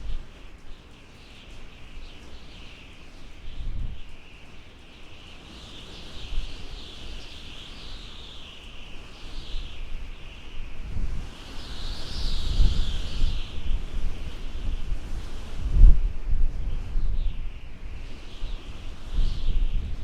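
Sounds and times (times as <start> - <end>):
low wind rumble: 0.0 - 2.5, 3.1 - 20.0.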